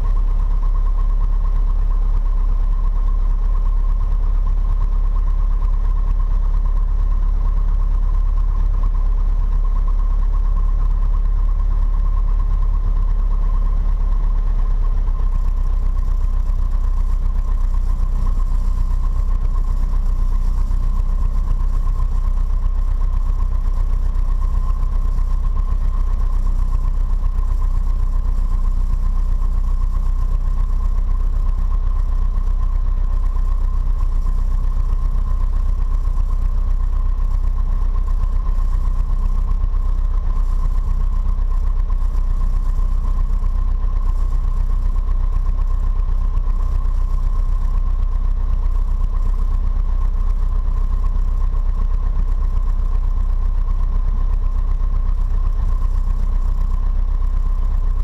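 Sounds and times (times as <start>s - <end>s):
aircraft engine low rumble: 0.0s - 58.0s
thin steady whine: 0.0s - 58.0s.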